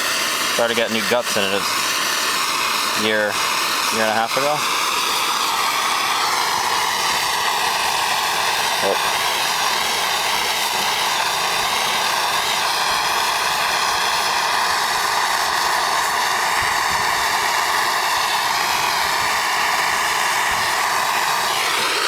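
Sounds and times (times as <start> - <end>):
heating tool rushing hiss: 0.0 - 22.0.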